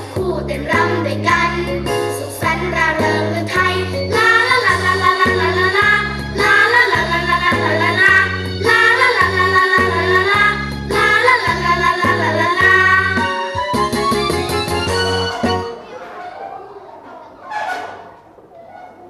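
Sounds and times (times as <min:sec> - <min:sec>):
children's song singing: 0:00.0 - 0:16.0.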